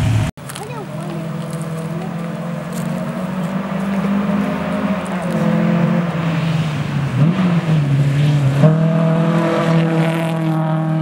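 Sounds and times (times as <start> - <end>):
rally car engine revving high: 0.0 - 11.0.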